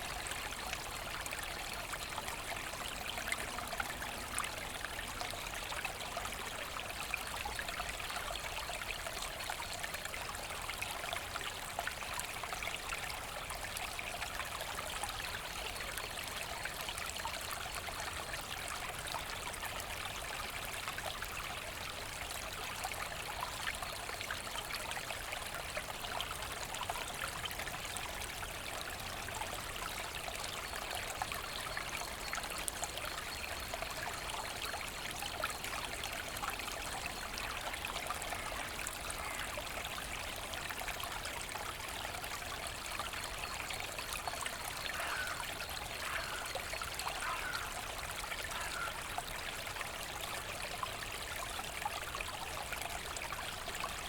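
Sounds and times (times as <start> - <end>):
brook trickling over stones: 0.0 - 54.0.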